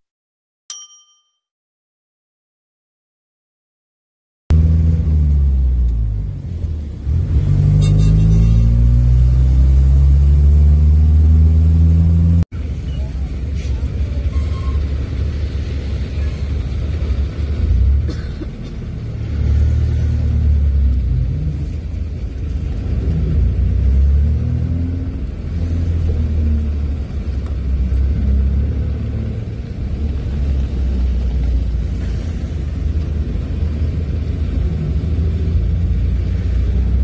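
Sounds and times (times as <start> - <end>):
car driving rumble: 4.5 - 37.0.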